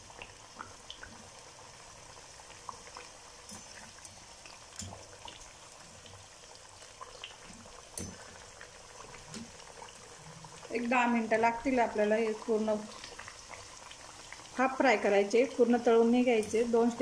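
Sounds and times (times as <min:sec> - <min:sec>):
fries bubbling in oil: 0:00.0 - 0:17.0.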